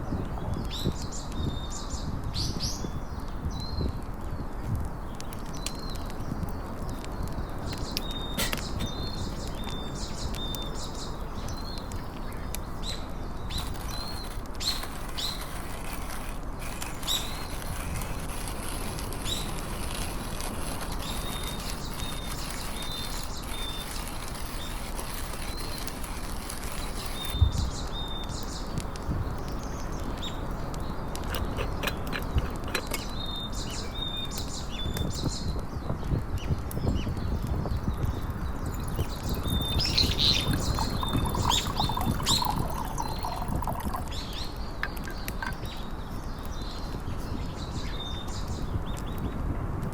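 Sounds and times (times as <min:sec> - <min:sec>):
small birds chirping: 0:00.0 - 0:49.4.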